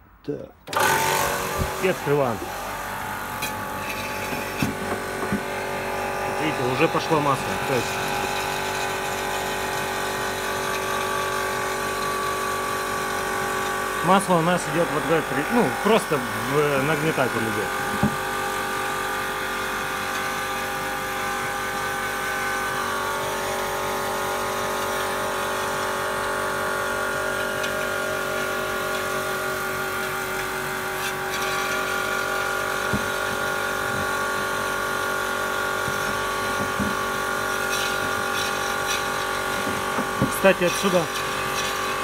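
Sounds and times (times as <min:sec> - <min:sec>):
air compressor motor hum: 0:00.6 - 0:42.0.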